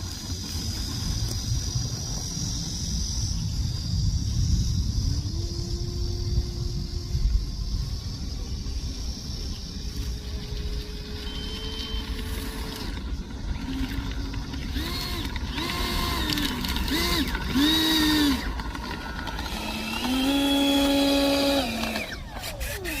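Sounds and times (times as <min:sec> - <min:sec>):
electric ducted fan whining: 0:00.0 - 0:23.0.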